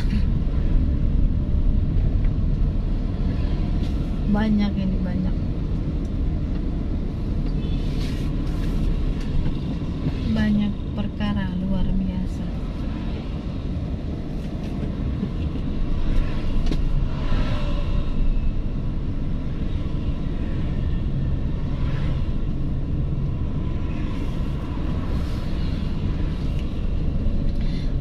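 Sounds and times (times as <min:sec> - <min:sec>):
car engine and road rumble: 0:00.0 - 0:28.0
traffic passing: 0:00.0 - 0:28.0.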